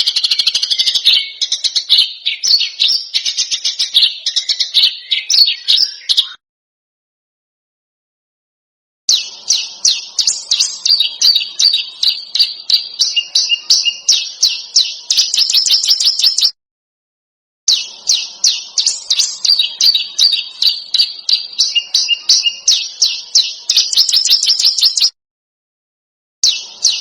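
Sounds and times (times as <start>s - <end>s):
songbird chirping: 0.0s - 6.4s, 9.1s - 16.6s, 17.7s - 25.2s, 26.4s - 27.0s.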